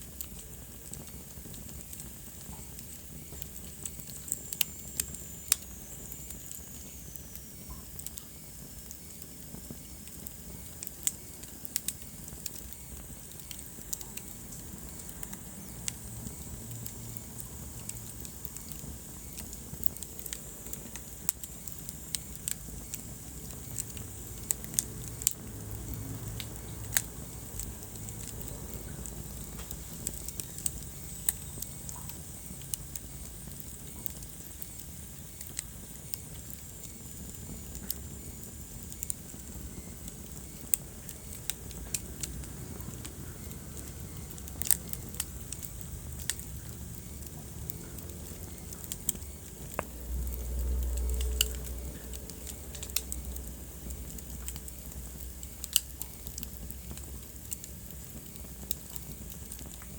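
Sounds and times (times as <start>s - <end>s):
low rumble of flames: 0.0s - 59.9s
wood fire crackling: 0.0s - 59.9s.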